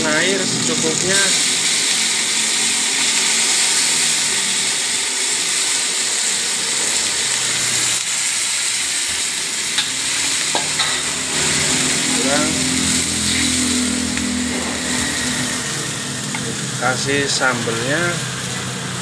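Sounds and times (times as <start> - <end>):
water hissing in hot wok: 0.0 - 19.0.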